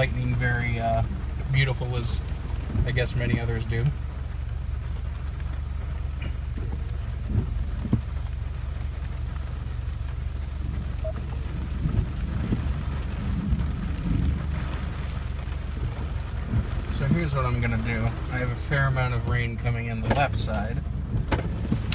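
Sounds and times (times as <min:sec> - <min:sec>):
raindrops tapping on car: 0:00.0 - 0:21.9
steady low rumble: 0:00.0 - 0:21.9.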